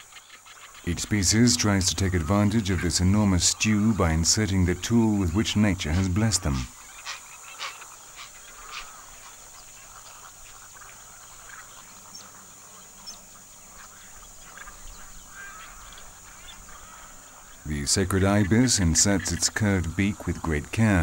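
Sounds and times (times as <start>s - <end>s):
faint high hiss: 0.0s - 21.0s
waterbirds calling and honking: 0.0s - 21.0s.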